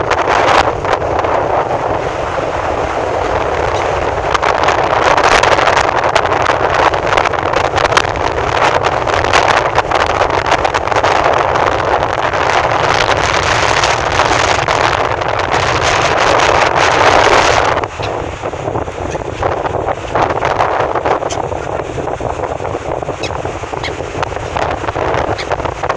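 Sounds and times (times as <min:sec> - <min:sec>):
sea rushing: 0:00.0 - 0:25.9
wind buffeting microphone: 0:00.0 - 0:25.9.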